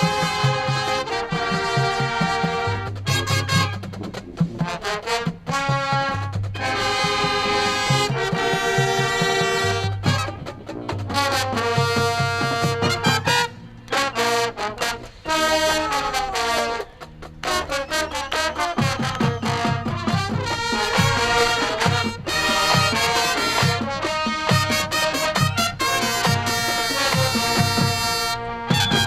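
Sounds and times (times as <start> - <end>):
brass section chords: 0.0 - 29.0.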